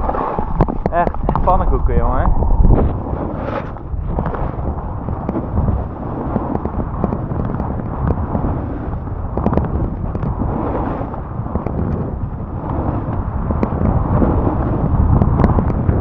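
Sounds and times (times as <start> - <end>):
snowboard scraping over snow: 0.0 - 16.0
wind rumbling on microphone: 0.0 - 16.0.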